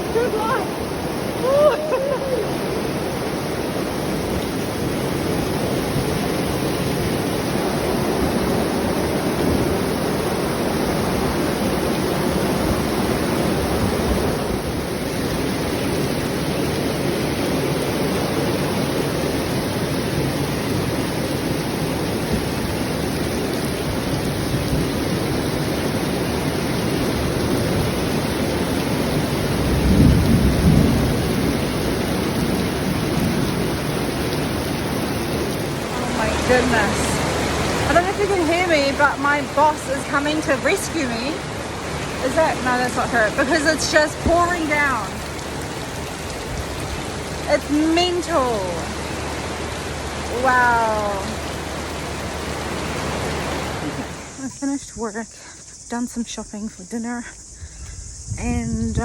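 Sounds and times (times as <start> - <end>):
low thunder rumble: 0.0 - 55.2, 57.4 - 59.0
heavy rain pouring: 0.0 - 56.3.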